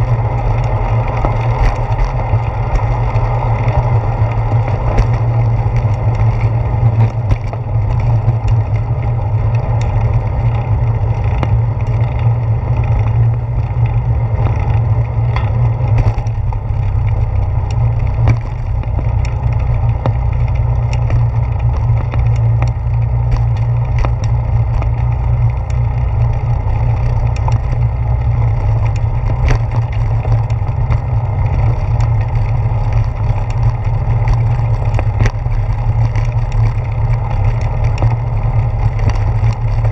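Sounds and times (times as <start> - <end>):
low rumble of tyre vibration: 0.0 - 39.9.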